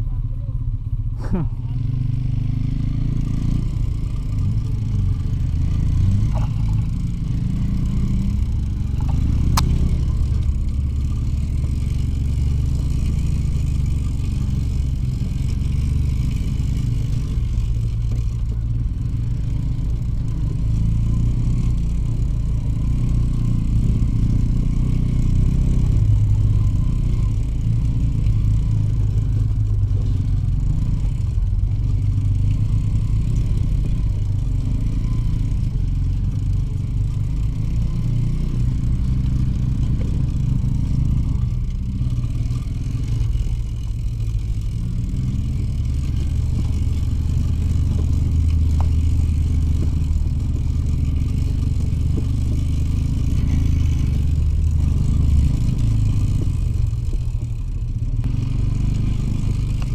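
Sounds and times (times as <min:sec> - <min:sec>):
two-stroke motorcycle engine: 0:00.0 - 0:59.9.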